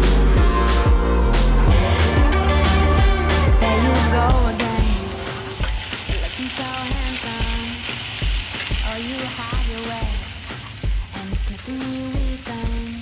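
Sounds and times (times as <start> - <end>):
background music with steady beat: 0.0 - 13.0
fish and onions sizzling on grill: 1.8 - 13.0.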